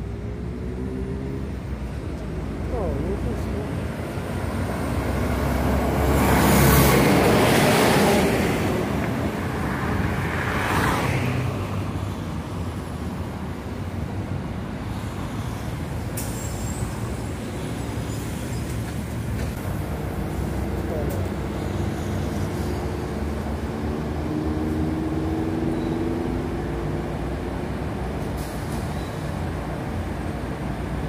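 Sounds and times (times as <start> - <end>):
buses passing: 0.0 - 31.0
steady traffic noise: 0.0 - 31.0.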